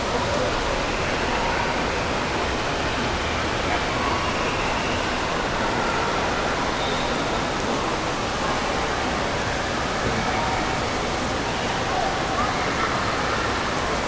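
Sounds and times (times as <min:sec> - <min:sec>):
faint distant voices: 0:00.0 - 0:14.0.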